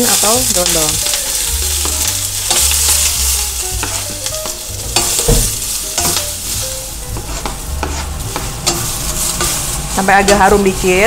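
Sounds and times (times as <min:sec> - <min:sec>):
food sizzling in hot oil: 0:00.0 - 0:11.0
spatula scraping a pan: 0:00.6 - 0:11.0.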